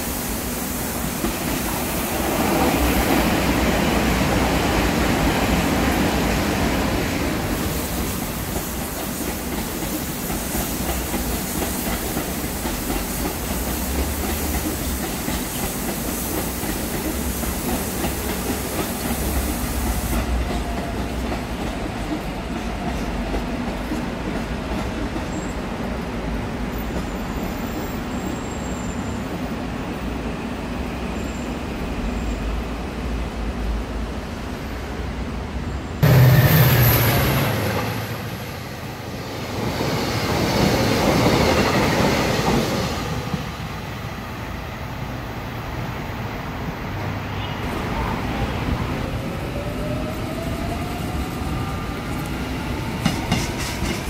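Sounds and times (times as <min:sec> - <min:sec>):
electric train rumbling by: 0:00.0 - 0:54.0
express train passing close: 0:00.0 - 0:54.0.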